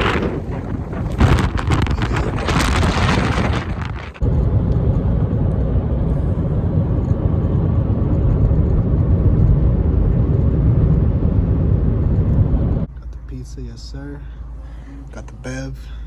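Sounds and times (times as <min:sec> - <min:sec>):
rush of wind noise: 0:00.0 - 0:12.9
car engine and road noise: 0:00.0 - 0:16.0.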